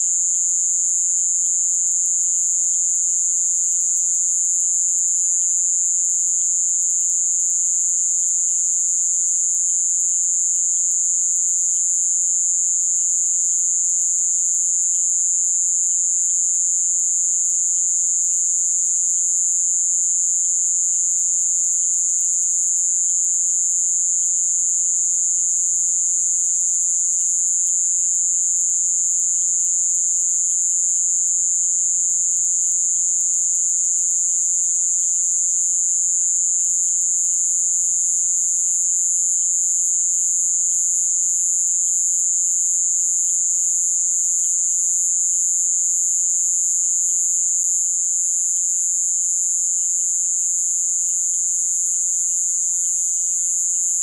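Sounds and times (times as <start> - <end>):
faint insect chirping: 0.0 - 54.0
high-pitched insect trill: 0.0 - 54.0.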